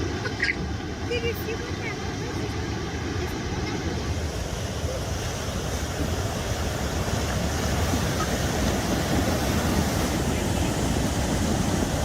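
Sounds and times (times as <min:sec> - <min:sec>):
rough sea water surging: 0:00.0 - 0:12.0
wind buffeting microphone: 0:00.0 - 0:12.0.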